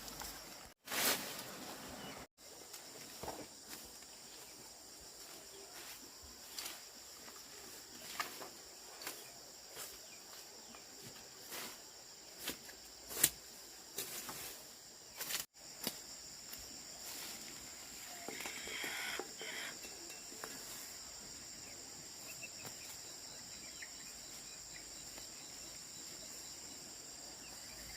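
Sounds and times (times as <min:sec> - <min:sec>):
insects chorus: 0:00.0 - 0:27.9.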